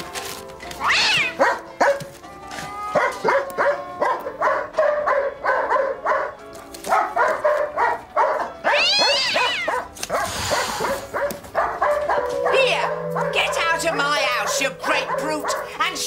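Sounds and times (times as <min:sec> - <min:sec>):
dog wailing cry: 0:00.8 - 0:06.4, 0:07.0 - 0:16.0
dog barking: 0:01.2 - 0:02.1, 0:02.9 - 0:16.0.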